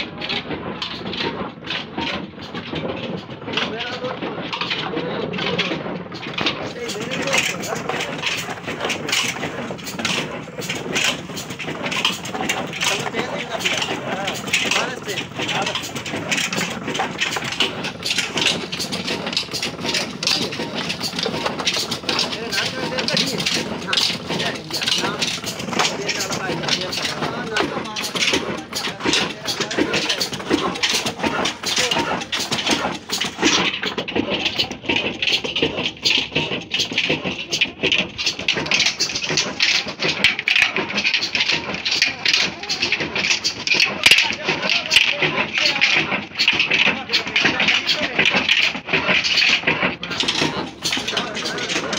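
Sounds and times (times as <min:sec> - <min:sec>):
stationary engine running rhythmically: 0:00.0 - 0:51.9.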